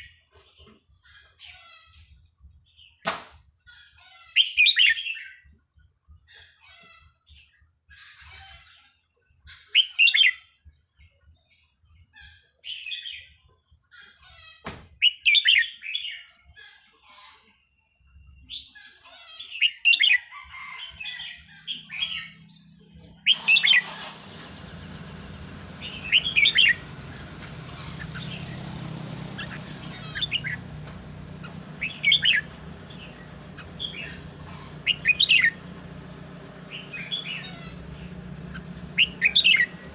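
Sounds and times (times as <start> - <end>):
bird singing warbled phrases: 2.7 - 39.9.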